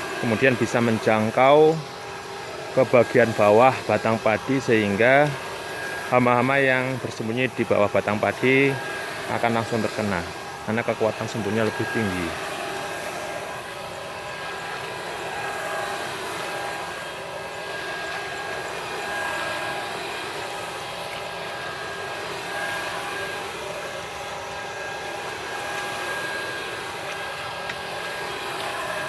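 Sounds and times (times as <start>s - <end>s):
blower fan whine: 0.0s - 29.0s.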